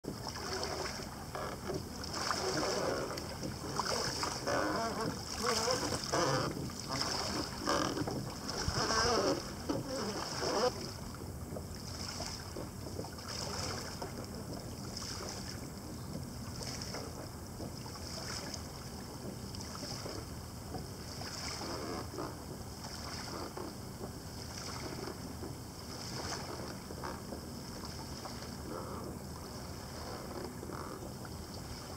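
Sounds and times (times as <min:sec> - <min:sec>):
water splashing against boat hull: 0:00.0 - 0:31.9.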